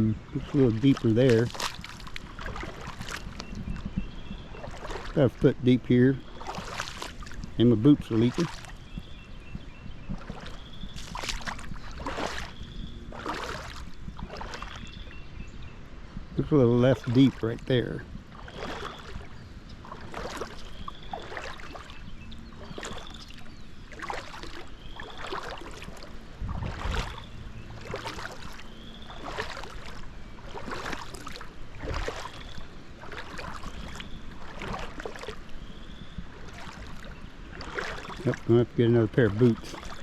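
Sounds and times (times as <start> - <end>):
boots sloshing through water: 0.0 - 15.6, 16.4 - 40.0.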